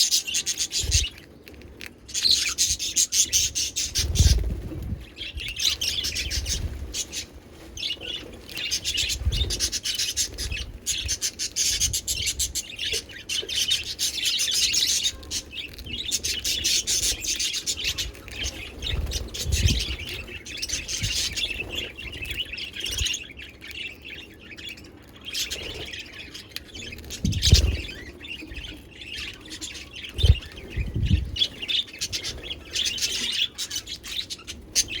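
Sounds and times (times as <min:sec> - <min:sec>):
budgerigars chattering and chirping: 0:02.1 - 0:35.0.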